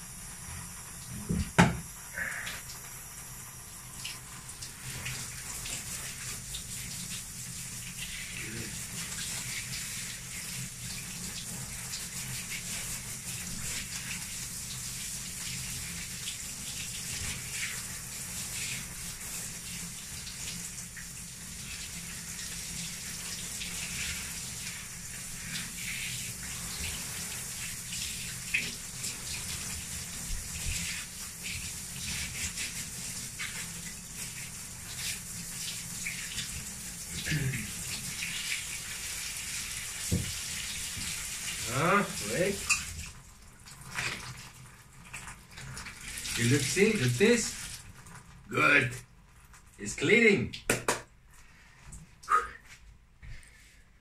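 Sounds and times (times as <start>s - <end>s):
shower water spraying: 0.0s - 49.0s.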